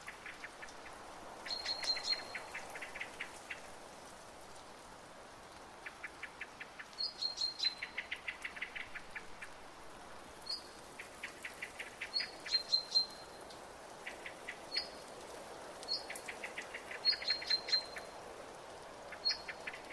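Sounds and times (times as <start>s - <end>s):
steady outdoor hiss: 0.0s - 19.9s.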